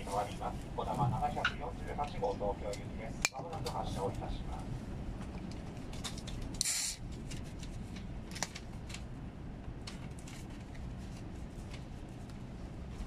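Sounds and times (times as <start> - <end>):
low rumble of train carriage: 0.0 - 13.0.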